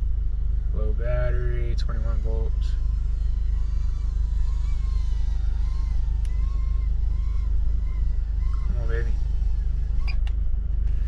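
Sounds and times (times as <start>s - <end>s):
faint wavering whine: 0.0s - 11.0s
low rumble inside car: 0.0s - 11.0s.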